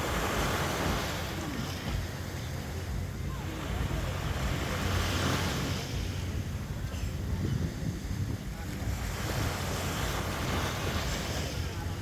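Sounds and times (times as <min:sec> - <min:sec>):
small waves washing onto sand: 0:00.0 - 0:12.0
wind buffeting microphone: 0:00.0 - 0:12.0.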